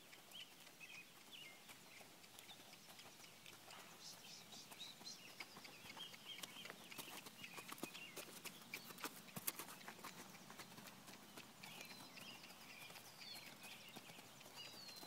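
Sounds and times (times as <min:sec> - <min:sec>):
horse hoofbeats on soft dirt: 0:00.0 - 0:15.0
small birds chirping: 0:00.0 - 0:15.0.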